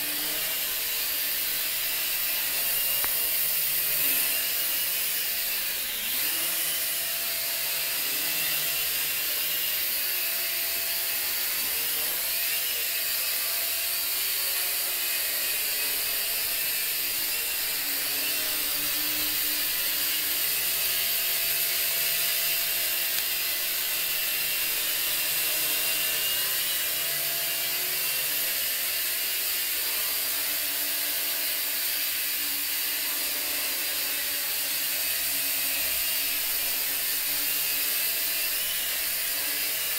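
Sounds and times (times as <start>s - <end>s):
toy drone propellers whining: 0.0s - 39.9s.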